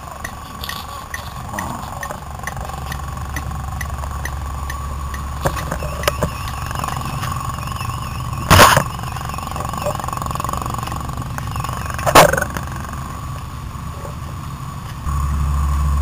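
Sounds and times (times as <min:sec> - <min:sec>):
fire engine motor rumbling: 0:00.0 - 0:16.0
wavering high tone: 0:00.1 - 0:13.3
faint regular ticks: 0:00.2 - 0:13.5.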